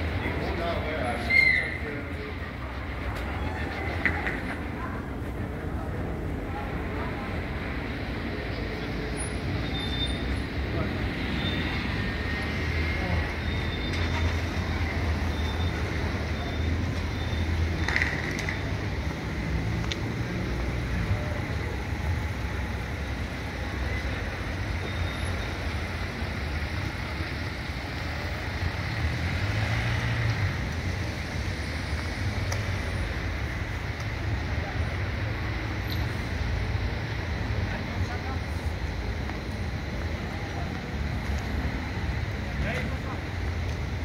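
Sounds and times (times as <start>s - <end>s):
car engines and tyres humming: 0.0s - 44.0s
low traffic rumble: 0.0s - 44.0s.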